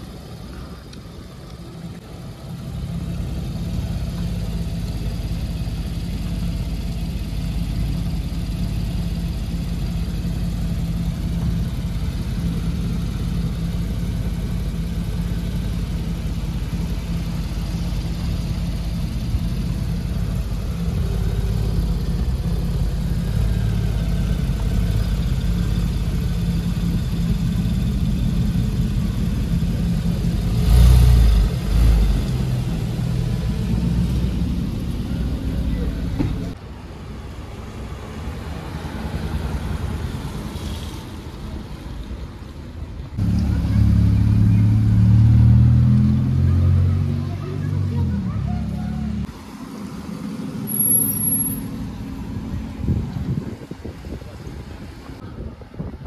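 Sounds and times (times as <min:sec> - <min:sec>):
car engine idling: 0:00.0 - 0:38.7, 0:41.5 - 0:45.0, 0:47.2 - 0:55.5.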